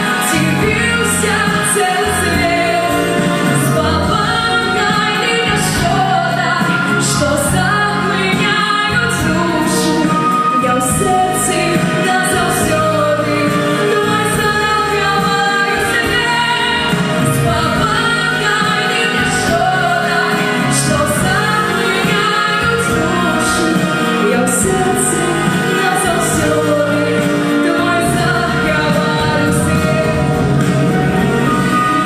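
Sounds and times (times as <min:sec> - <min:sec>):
backing voices singing: 0:00.0 - 0:32.0
folk-pop backing track: 0:00.0 - 0:32.0
woman singing: 0:00.0 - 0:32.0.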